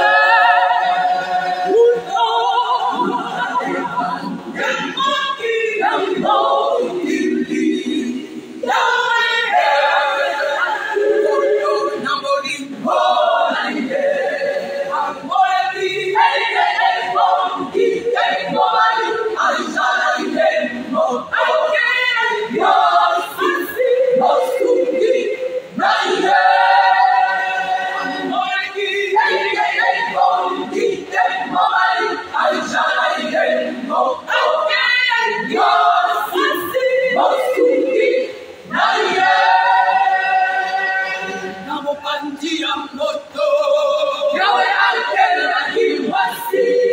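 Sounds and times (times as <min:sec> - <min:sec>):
women's choir singing: 0:00.0 - 0:46.9.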